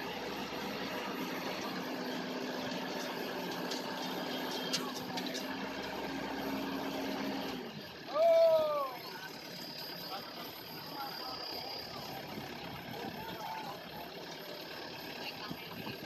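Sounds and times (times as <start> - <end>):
harvester engine running: 0.0 - 16.0.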